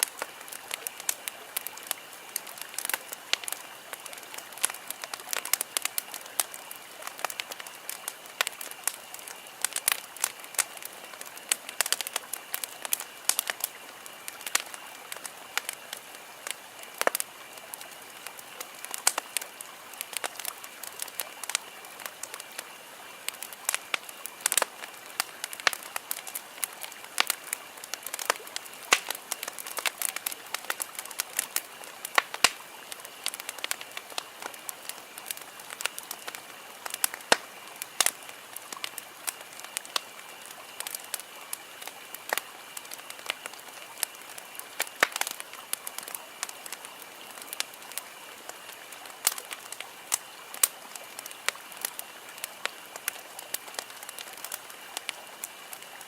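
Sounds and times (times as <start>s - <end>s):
campfire crackling and popping: 0.0s - 56.0s
soft hiss of burning: 0.0s - 56.0s.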